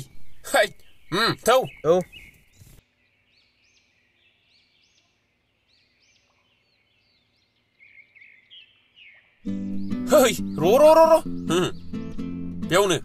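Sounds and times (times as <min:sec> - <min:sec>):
faint bird chirps: 0:00.0 - 0:12.1.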